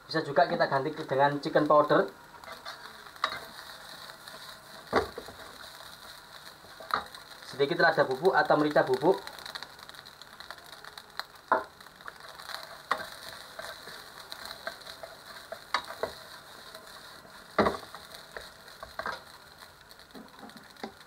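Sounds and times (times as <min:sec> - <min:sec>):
rice sizzling in a pan: 0:00.0 - 0:21.0.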